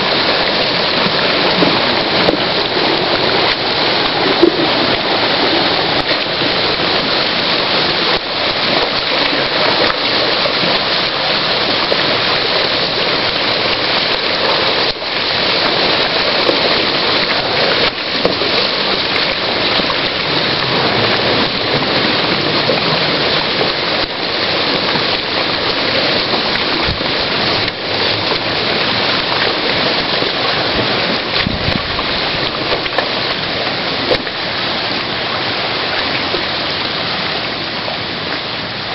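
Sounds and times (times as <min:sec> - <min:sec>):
ice and water rushing: 0:00.0 - 0:38.9.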